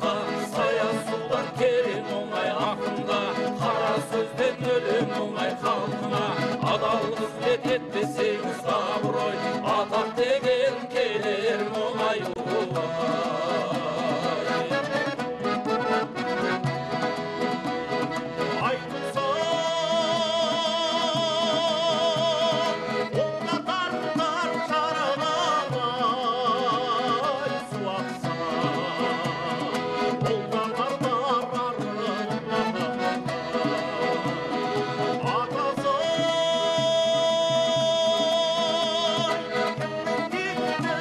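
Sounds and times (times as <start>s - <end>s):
instrumental accompaniment: 0.0s - 41.0s
person singing folk song: 0.0s - 41.0s.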